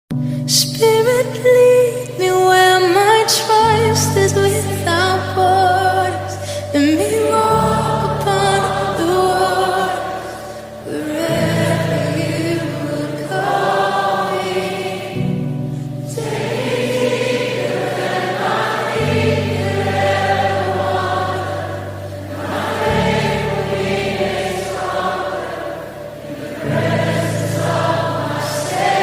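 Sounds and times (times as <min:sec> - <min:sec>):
slow choral singing: 0:01.3 - 0:29.0.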